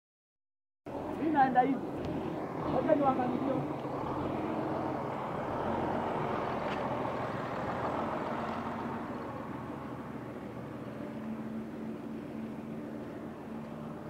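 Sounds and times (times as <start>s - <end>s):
passing vehicle engine and tyres: 0.9s - 14.0s.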